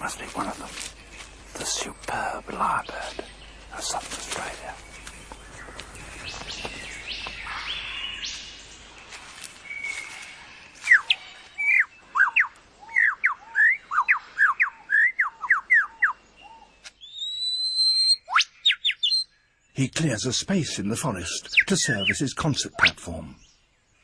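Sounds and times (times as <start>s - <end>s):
lyrebird singing: 0.0s - 24.0s.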